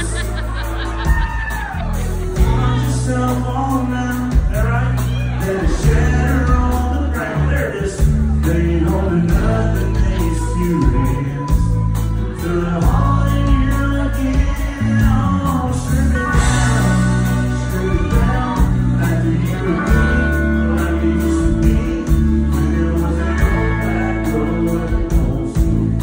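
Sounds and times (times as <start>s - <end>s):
country band playing: 0.0s - 26.0s
man singing into a microphone: 2.4s - 26.0s.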